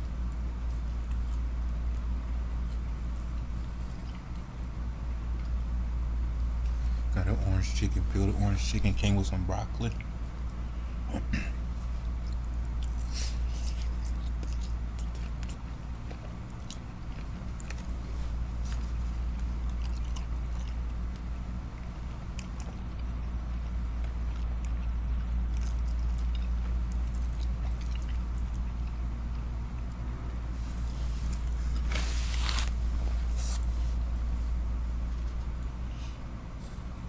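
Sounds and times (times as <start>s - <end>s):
person chewing with wet smacks: 0.0s - 5.8s, 9.8s - 36.3s
steady low hum: 0.0s - 37.0s.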